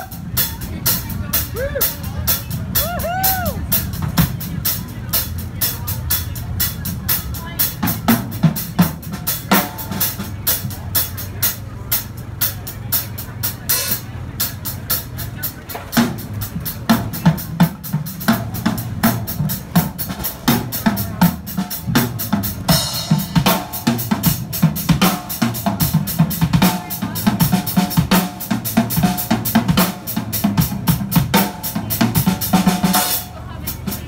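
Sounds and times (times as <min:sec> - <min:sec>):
rock drumming on a drum kit: 0:00.0 - 0:34.0.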